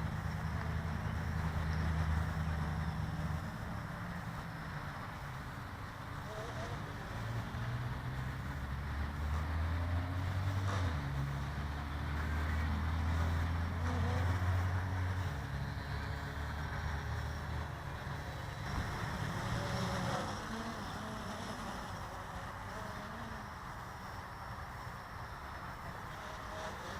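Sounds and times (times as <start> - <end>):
quadcopter propellers whirring: 0.0 - 26.9.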